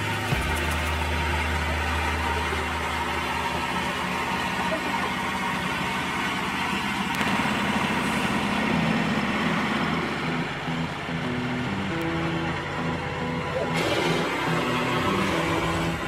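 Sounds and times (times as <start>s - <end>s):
gas engine running under load: 0.0s - 16.0s.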